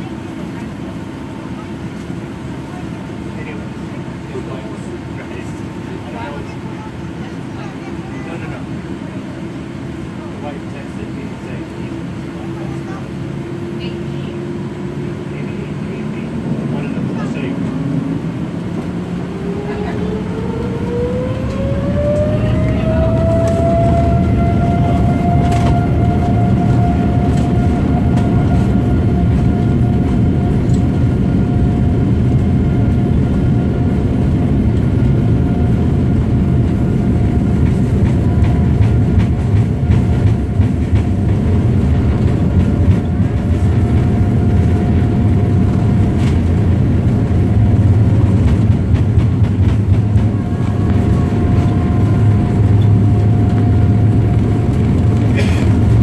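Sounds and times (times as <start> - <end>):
deep rumble of plane rolling: 0.0 - 56.0
jet engine whine: 0.0 - 56.0.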